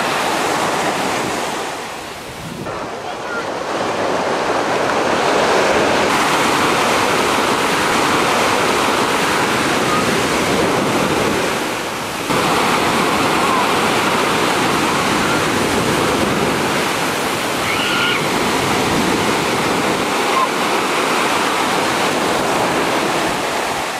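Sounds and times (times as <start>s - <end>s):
waves breaking: 0.0s - 23.9s.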